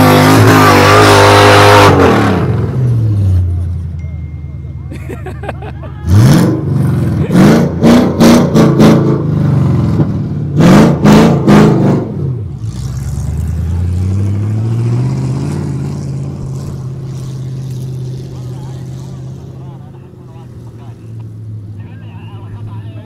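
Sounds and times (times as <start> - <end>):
vehicle engine revving: 0.0 - 3.9, 6.0 - 23.0.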